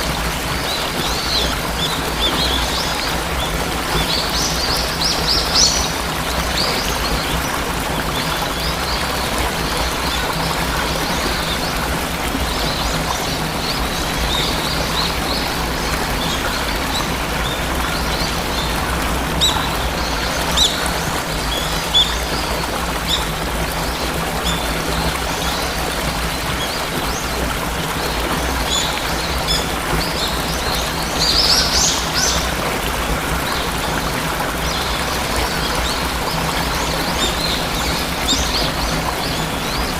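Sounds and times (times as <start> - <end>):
waterfall rushing: 0.0 - 39.9
small birds chirping: 0.4 - 32.7.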